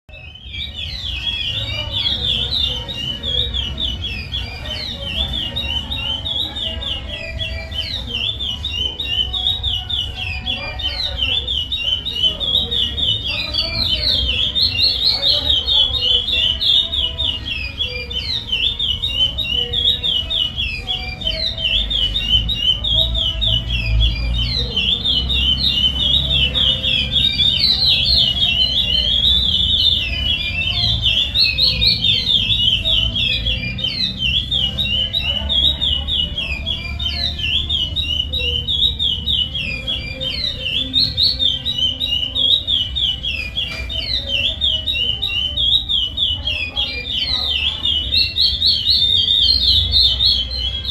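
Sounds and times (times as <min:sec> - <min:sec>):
finch singing: 0:00.1 - 0:50.9.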